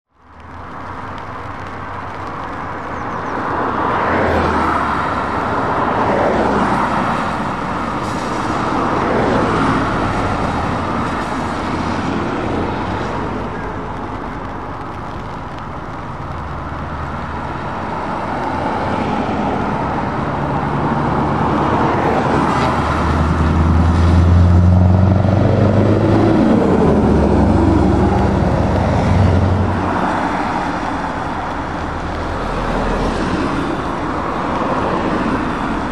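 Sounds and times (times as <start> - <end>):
cars and trucks driving by: 0.1 - 35.9
heavy vehicle engine: 4.5 - 35.9.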